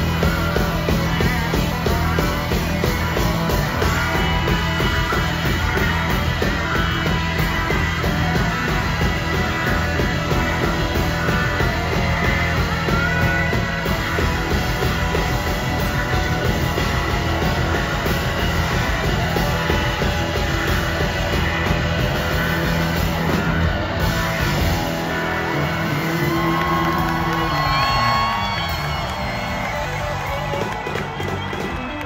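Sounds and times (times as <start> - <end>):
loud rock band playing: 0.0 - 32.0.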